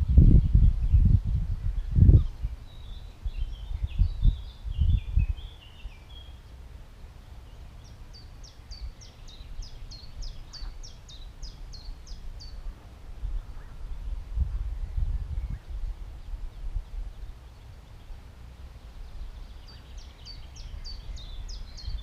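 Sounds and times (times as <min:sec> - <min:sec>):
songbirds twittering: 0:00.0 - 0:22.0
wind rumble on microphone: 0:00.0 - 0:22.0.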